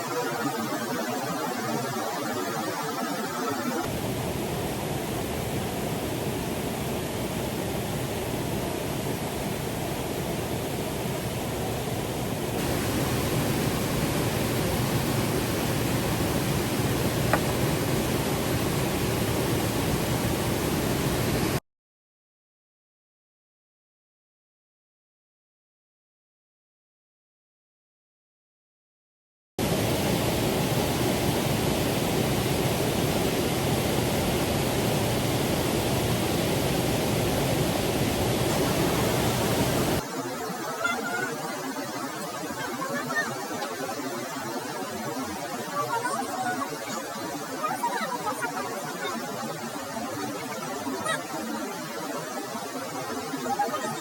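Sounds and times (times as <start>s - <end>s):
rushing mountain stream: 0.0s - 21.6s, 29.6s - 54.0s.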